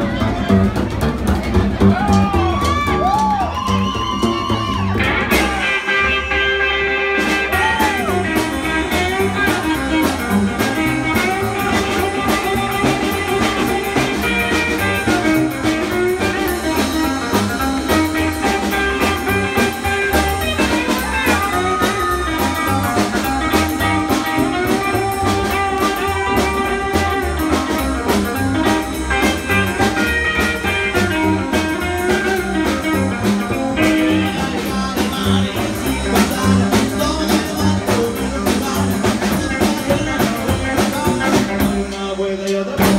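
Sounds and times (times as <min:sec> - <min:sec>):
rockabilly band playing: 0:00.0 - 0:42.9
quick drumbeat: 0:07.2 - 0:41.8.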